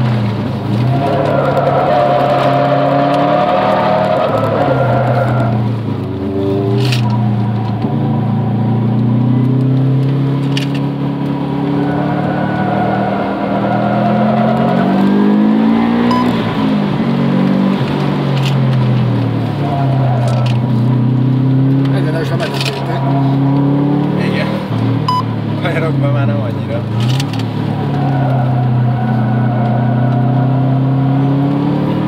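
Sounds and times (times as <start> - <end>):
car engine revving through gears: 0.0 - 32.0.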